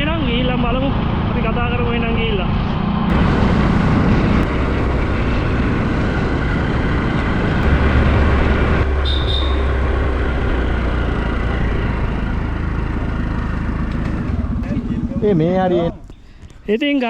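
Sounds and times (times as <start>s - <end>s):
heavy low rumble: 0.0s - 16.4s
vehicle engine and road noise: 0.0s - 17.0s.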